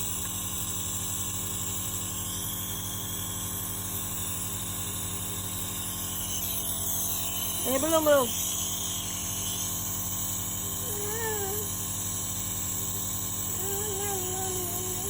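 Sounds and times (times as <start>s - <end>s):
nebulizer motor hum: 0.0s - 15.0s.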